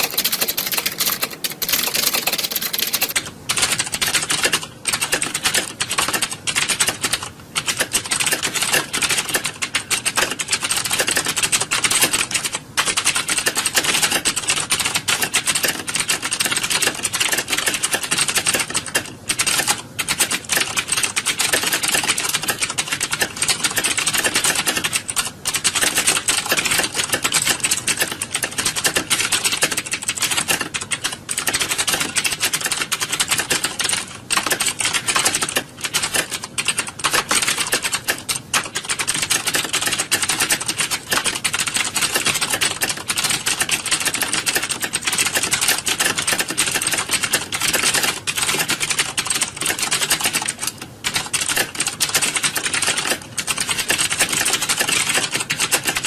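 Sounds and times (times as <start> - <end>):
keyboard key clicks clatter: 0.0 - 56.0.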